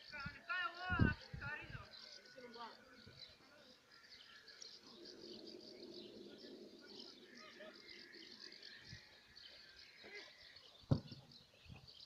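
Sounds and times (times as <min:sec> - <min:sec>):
distant chirping: 0:00.0 - 0:12.0.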